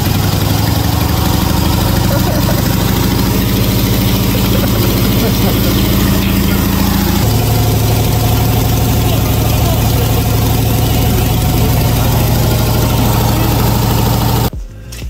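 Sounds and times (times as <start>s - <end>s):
engine idling: 0.0s - 14.5s.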